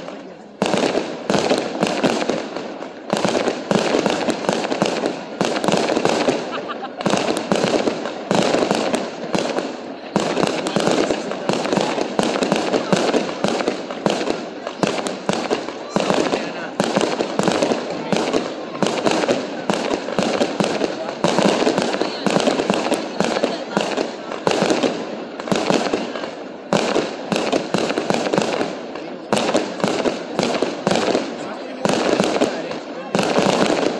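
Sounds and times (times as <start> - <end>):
fireworks popping and crackling: 0.0 - 33.9
loud firework bursts: 0.0 - 33.9.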